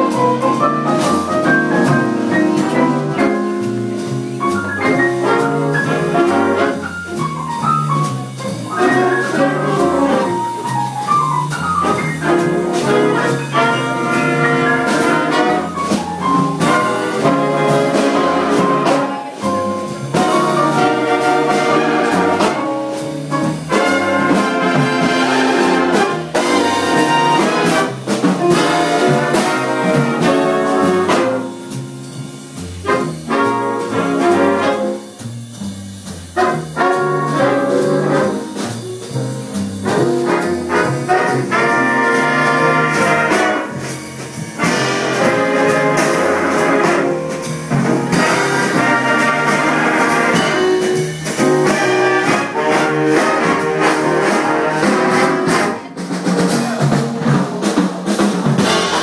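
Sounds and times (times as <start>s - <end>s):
big band playing jazz: 0.0s - 59.0s
drums: 0.0s - 59.0s.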